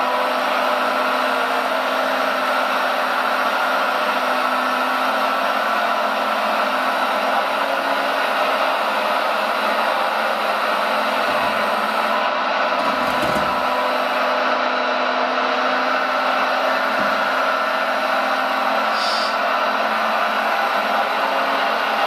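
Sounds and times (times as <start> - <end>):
electric motor and pump whirring: 0.0 - 22.0.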